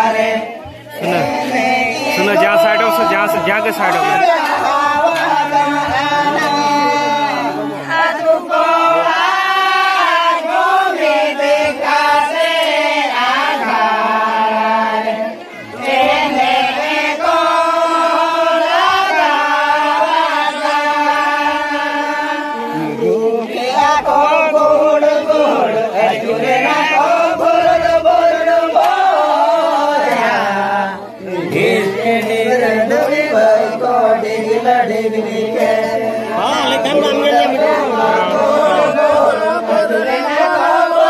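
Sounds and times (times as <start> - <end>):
men singing in unison: 0.0 - 41.0.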